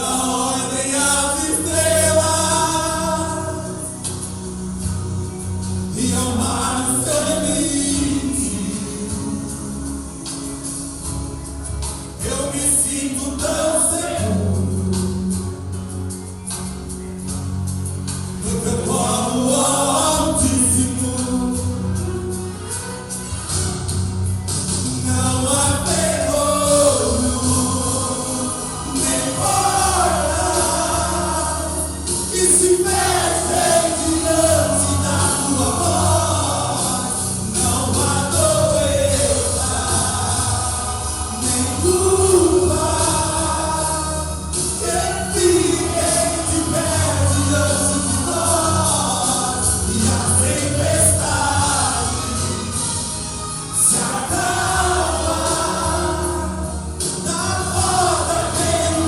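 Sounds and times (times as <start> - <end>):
men singing gospel song: 0.0 - 5.1, 5.7 - 10.8, 12.2 - 15.8, 18.3 - 22.8, 24.7 - 59.0
instrumental accompaniment: 0.0 - 59.0.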